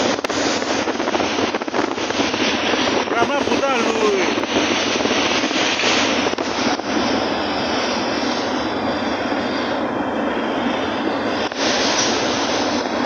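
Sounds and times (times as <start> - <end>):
train running: 0.0 - 13.0.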